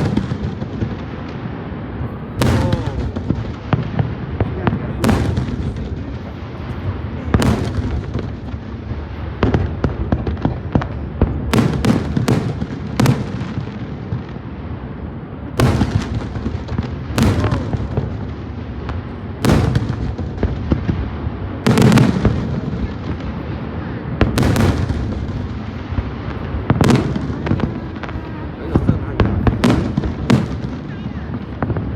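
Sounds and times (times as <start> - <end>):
distant fireworks rumble: 0.0 - 31.9.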